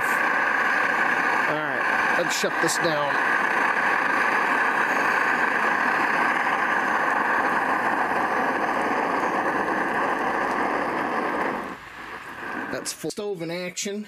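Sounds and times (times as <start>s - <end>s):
camping stove burning: 0.0s - 14.0s.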